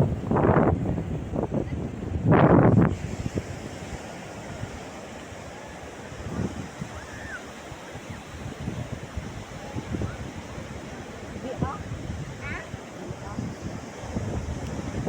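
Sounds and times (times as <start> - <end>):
waves washing on a beach: 0.0 - 15.0
wind on microphone: 0.0 - 15.0.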